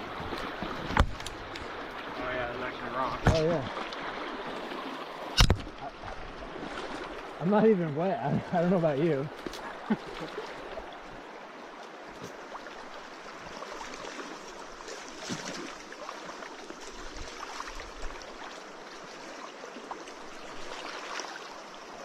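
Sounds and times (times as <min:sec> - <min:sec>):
water sloshing around wading legs: 0:00.0 - 0:07.6, 0:08.4 - 0:22.0
water splashes: 0:00.0 - 0:22.0.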